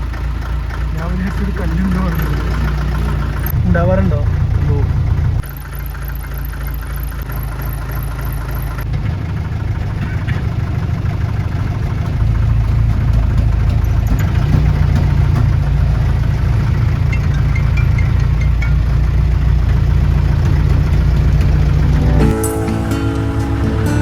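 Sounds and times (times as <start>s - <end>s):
car engine rumbling while driving: 0.0s - 24.0s.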